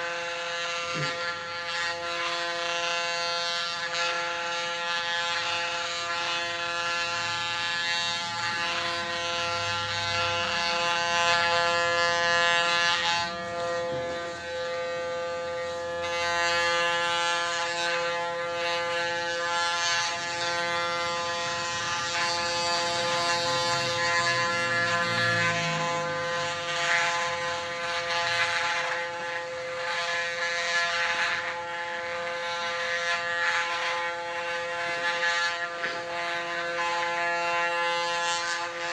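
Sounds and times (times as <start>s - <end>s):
electric hair clipper humming: 0.0s - 38.9s.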